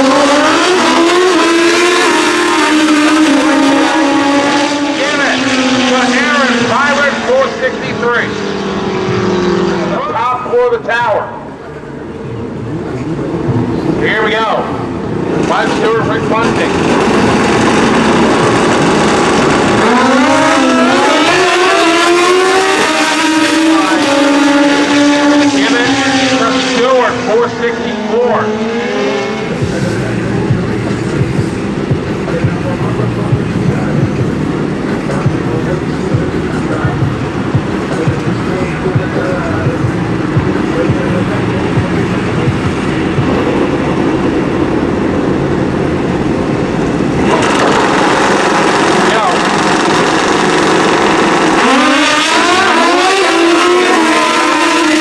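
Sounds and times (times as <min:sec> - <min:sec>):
motorcycle accelerating hard: 0:00.0 - 0:10.4, 0:12.4 - 0:55.0.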